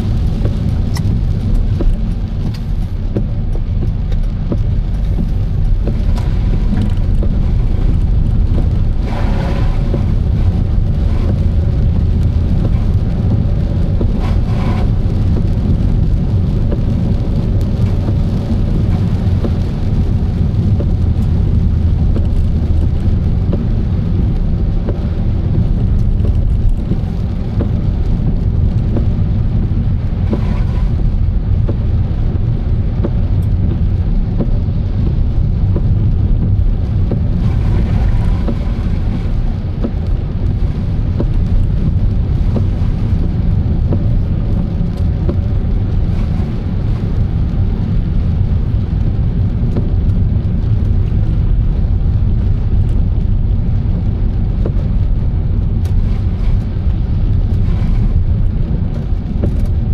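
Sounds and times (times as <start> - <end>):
car road and engine rumble: 0.0 - 59.9
rain pattering: 0.0 - 59.9.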